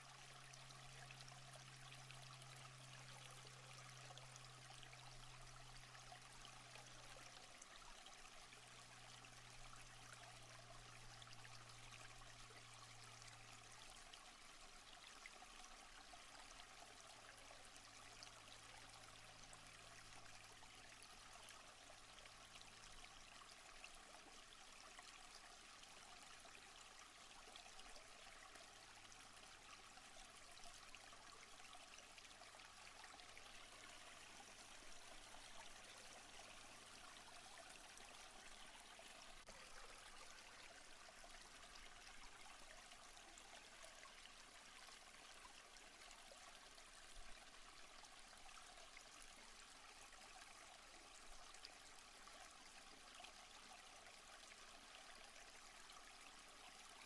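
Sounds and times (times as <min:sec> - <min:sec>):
stream and small waterfall: 0:00.0 - 0:57.0.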